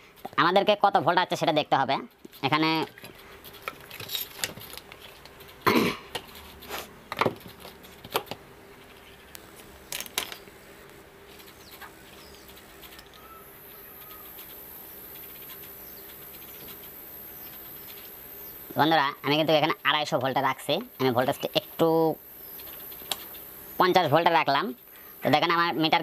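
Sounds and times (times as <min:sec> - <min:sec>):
faint high steady hiss: 0:00.0 - 0:26.0.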